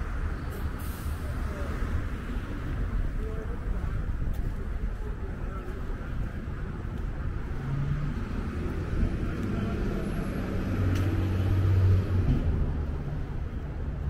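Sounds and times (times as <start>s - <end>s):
city noise: 0.0s - 14.0s.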